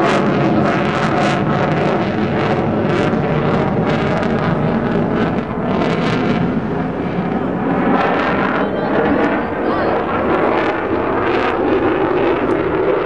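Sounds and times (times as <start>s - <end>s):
jet engine noise: 0.0s - 13.0s
wind noise on microphone: 0.0s - 13.0s.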